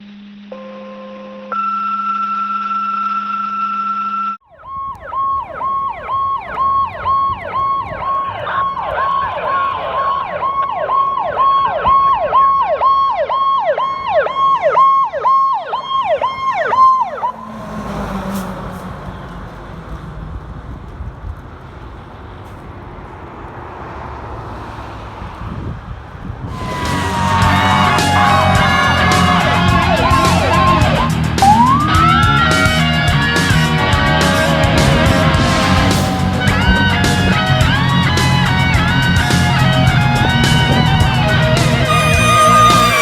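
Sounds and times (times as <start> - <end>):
fire engine siren yelping: 2.8 - 22.0, 26.4 - 43.0
truck and traffic rumble: 4.5 - 43.0.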